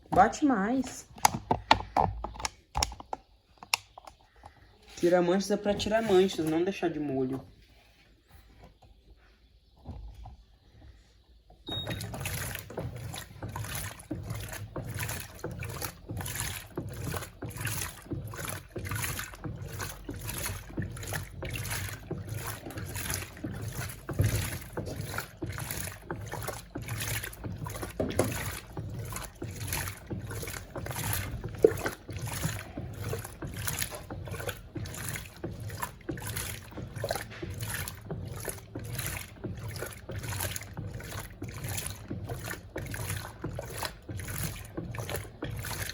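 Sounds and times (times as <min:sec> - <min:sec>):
water and clothes swishing: 0:00.0 - 0:02.0, 0:03.8 - 0:45.9
washing machine motor hum: 0:00.0 - 0:03.0, 0:03.7 - 0:45.9.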